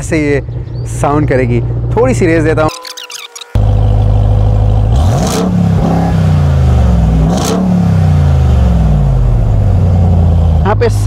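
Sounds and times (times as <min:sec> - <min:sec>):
car engine idling and revving: 0:00.0 - 0:02.7, 0:03.5 - 0:11.0.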